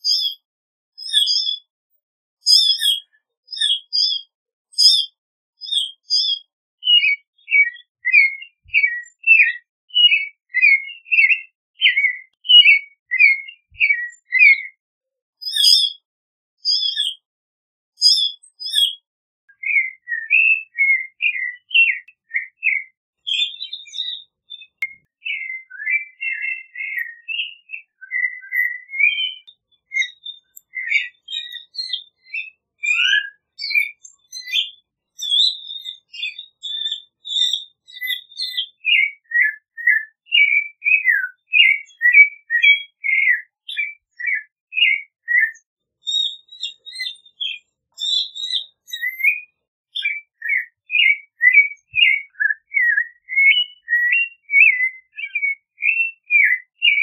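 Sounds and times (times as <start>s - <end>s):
thrush singing whistled phrases: 0.0s - 0.4s, 1.0s - 1.7s, 2.4s - 14.8s, 15.4s - 16.0s, 18.0s - 57.0s.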